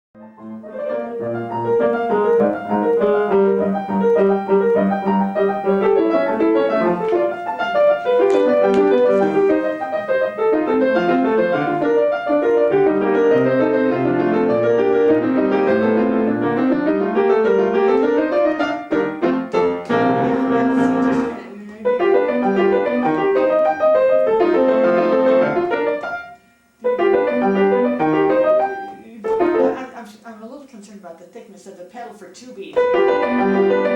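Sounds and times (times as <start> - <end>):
solo piano: 0.2 - 29.9, 32.8 - 33.9.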